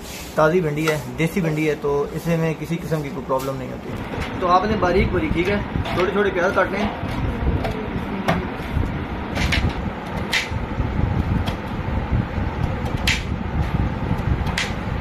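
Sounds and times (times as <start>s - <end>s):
steady low rumble: 0.4s - 15.0s.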